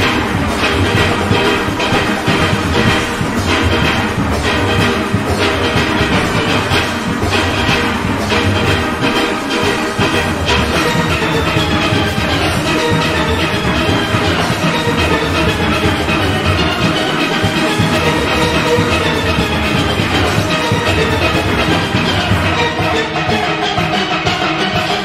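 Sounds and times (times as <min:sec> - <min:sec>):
drums and percussion: 0:00.0 - 0:25.0
steelpans playing melody: 0:00.0 - 0:25.0.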